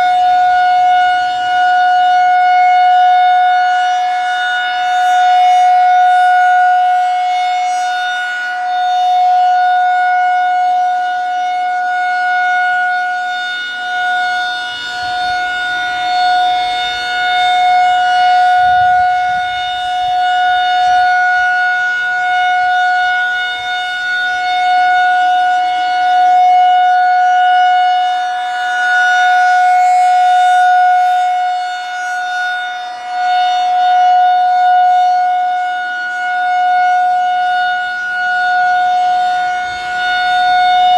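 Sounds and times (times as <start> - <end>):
single-tone siren: 0.0 - 40.9.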